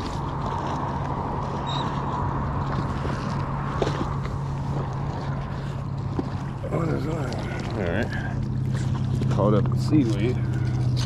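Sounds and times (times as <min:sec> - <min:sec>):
water noise: 0:00.0 - 0:11.0
wind: 0:00.0 - 0:11.0.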